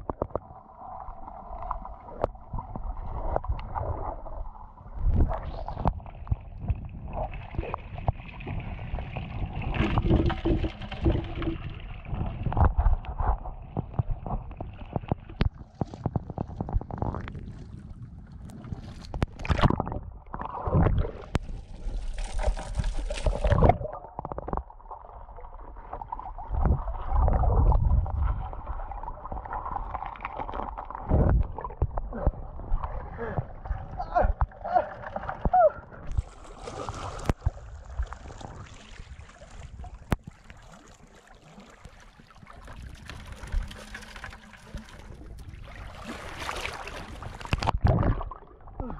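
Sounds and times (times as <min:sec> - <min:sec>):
muffled underwater rumbles: 0:00.0 - 0:48.9
river water sloshing and gurgling: 0:00.0 - 0:48.9.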